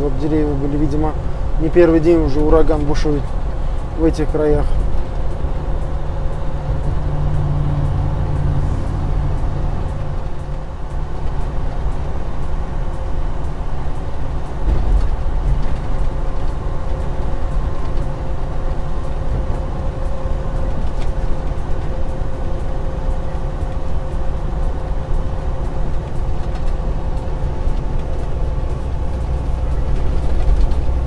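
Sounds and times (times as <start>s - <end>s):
road rumble: 0.0s - 31.0s
truck engine drone: 0.0s - 31.0s.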